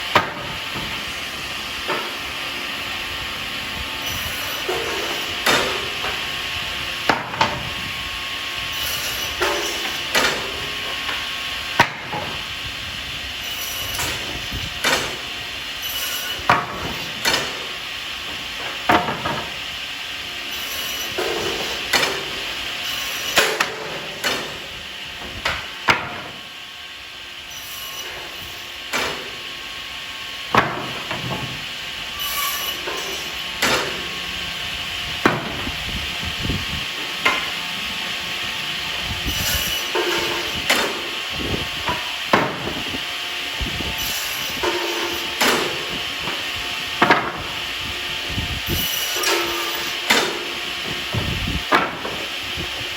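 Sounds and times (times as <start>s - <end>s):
wood saw whining: 0.0s - 26.7s, 27.4s - 52.9s.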